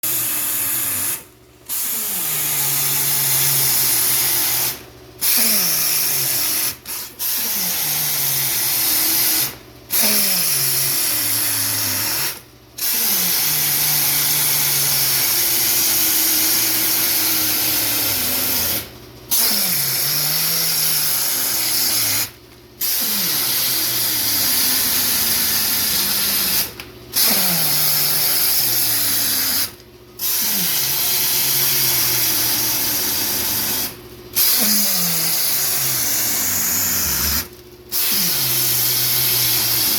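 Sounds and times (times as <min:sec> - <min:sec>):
power tool whirring: 0:00.0 - 0:39.9.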